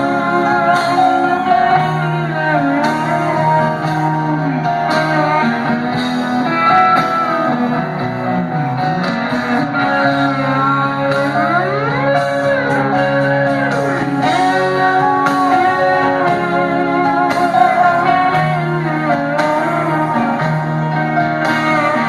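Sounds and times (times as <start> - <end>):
live rock band playing: 0.0 - 22.0
slide electric guitar: 0.0 - 22.0.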